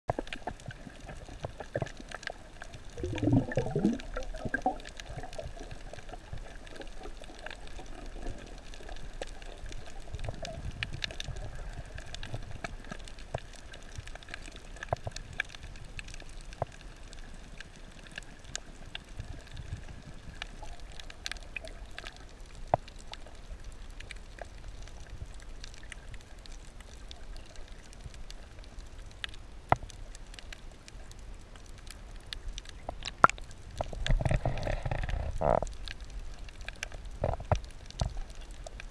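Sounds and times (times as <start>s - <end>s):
muffled underwater water wash: 0.1s - 38.9s
sharp clicks and crackles: 0.1s - 38.9s.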